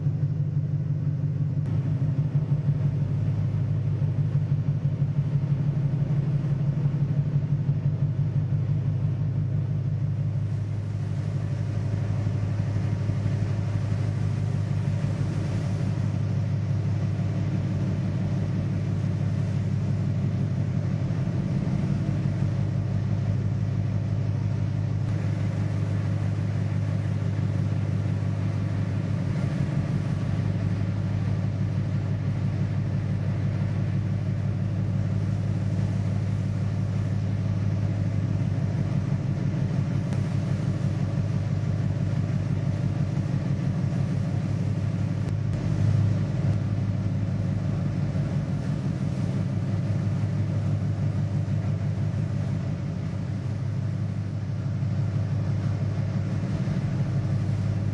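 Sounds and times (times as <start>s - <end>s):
ship engine rumbling: 0.0s - 57.9s.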